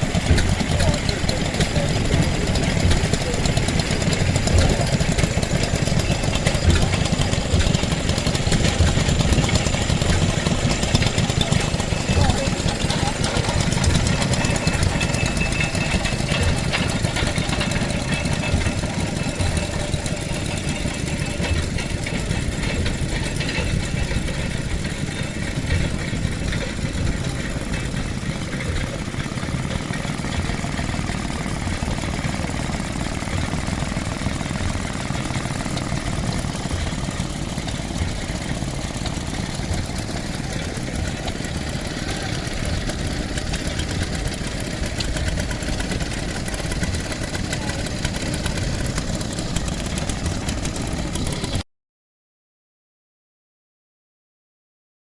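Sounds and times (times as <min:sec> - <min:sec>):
petrol engine idling: 0:00.0 - 0:51.6.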